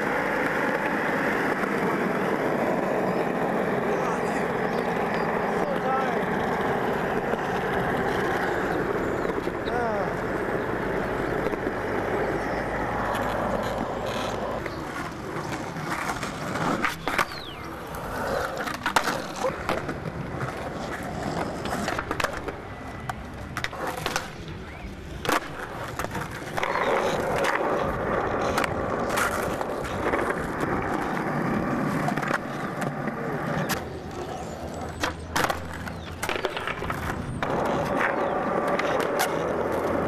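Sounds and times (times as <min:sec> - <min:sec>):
skateboard clacking on ground: 0:00.0 - 0:40.0
skateboard wheels rolling on concrete: 0:00.0 - 0:40.0.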